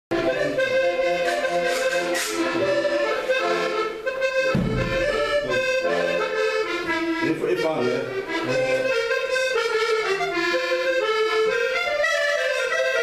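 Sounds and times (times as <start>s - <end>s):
instrumental music: 0.1s - 13.0s.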